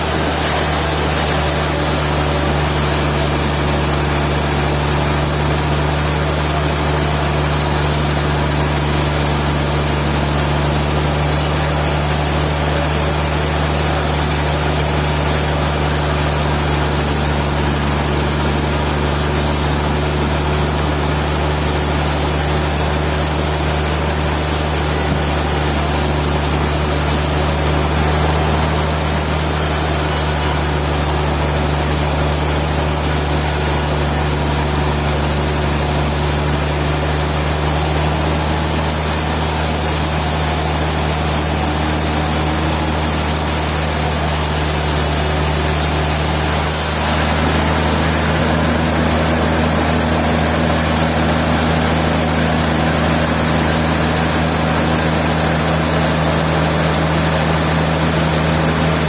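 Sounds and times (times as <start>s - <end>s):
sawmill engine hum: 0.0s - 59.0s.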